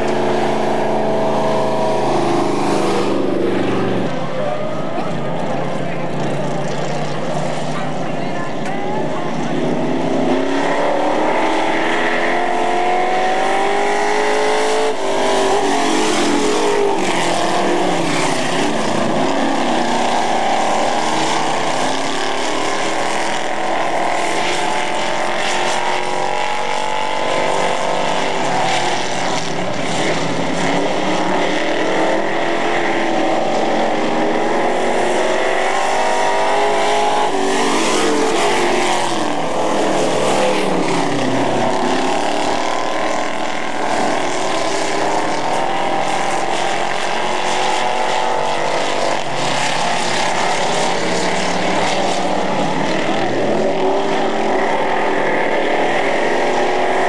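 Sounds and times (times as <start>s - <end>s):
racing truck engines revving: 0.0s - 57.0s.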